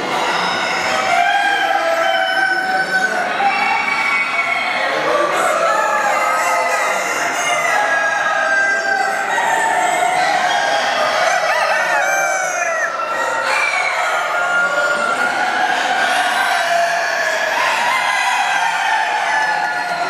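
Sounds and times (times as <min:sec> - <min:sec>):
hens clucking: 0:00.0 - 0:20.0
roosters crowing: 0:00.0 - 0:20.0.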